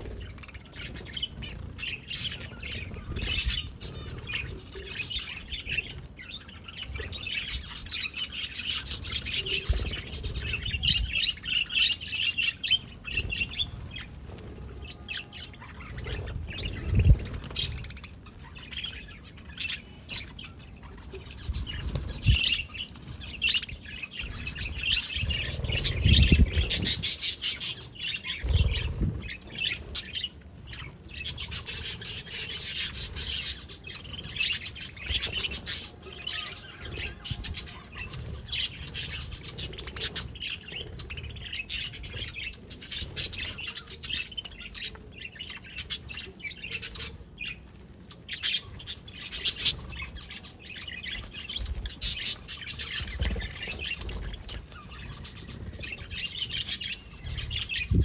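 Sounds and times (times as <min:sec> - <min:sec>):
budgerigars chirping and chattering: 0:00.0 - 0:58.0.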